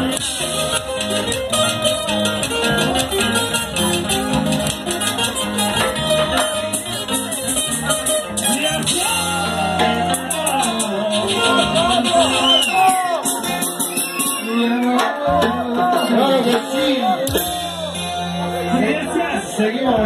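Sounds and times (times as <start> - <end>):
live band playing dance music: 0.0 - 20.0
strummed acoustic guitars: 0.0 - 20.0.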